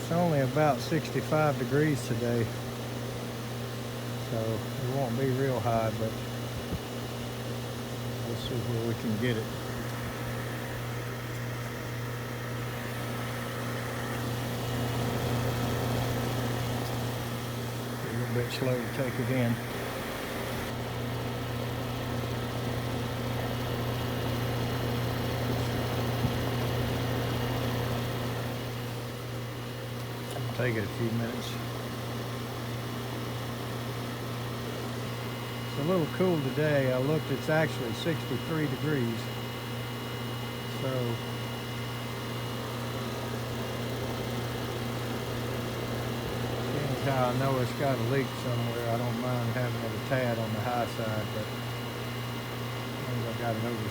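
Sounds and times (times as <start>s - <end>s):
compressor hum: 0.0s - 53.9s
condenser fan rush: 0.0s - 53.9s.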